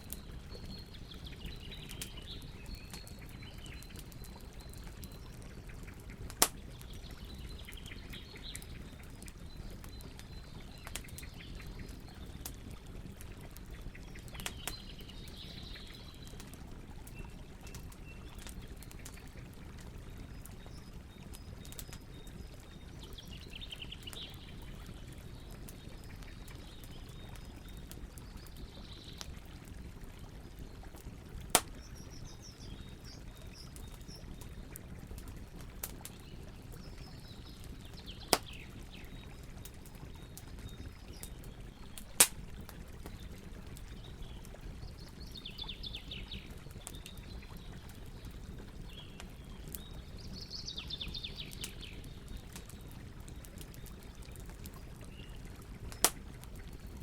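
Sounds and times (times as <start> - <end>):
campfire rumble: 0.0 - 57.0
wood popping in fire: 0.0 - 57.0.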